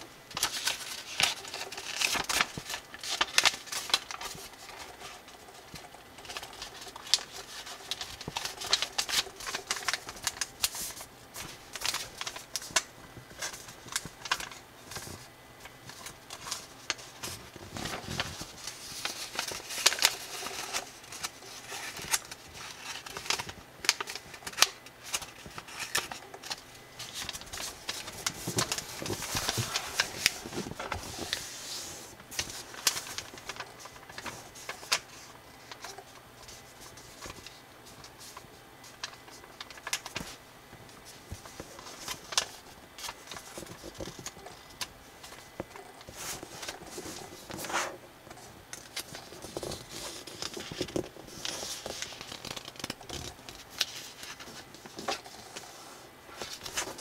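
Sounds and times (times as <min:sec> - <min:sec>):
paper rustling and crinkling: 0:00.0 - 0:57.0
crisp paper clicks and snaps: 0:00.3 - 0:15.2, 0:15.9 - 0:31.5, 0:32.3 - 0:47.7, 0:48.4 - 0:55.3.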